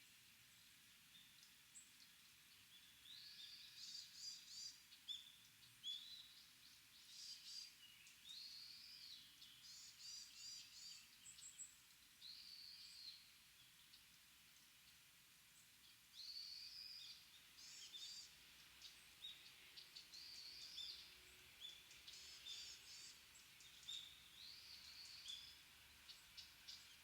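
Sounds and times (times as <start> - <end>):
steady background hiss: 0.0 - 27.0
songbirds chirping: 0.4 - 27.0.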